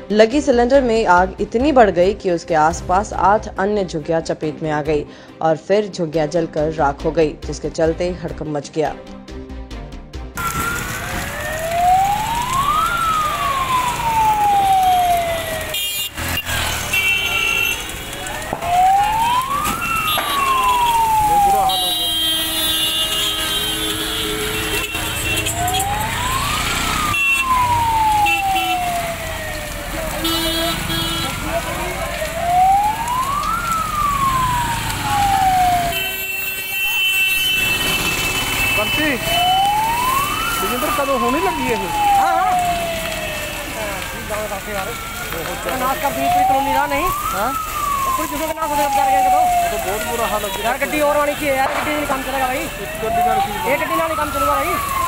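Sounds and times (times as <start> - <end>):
fire engine siren wailing: 10.4 - 55.0.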